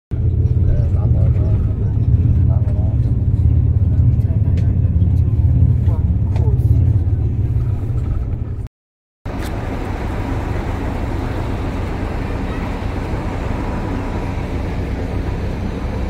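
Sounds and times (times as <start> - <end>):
bus engine and road rumble: 0.1 - 8.7, 9.3 - 16.0.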